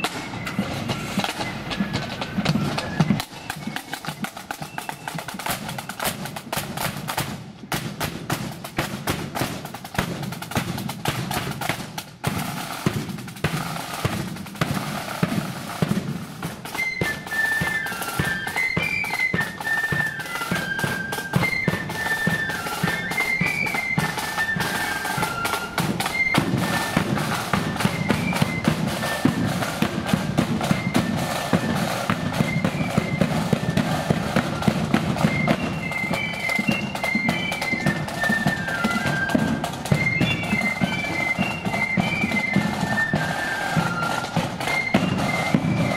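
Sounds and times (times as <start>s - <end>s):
flutes playing melody: 0.0s - 7.3s, 13.5s - 45.9s
snare drums beating: 0.0s - 45.9s.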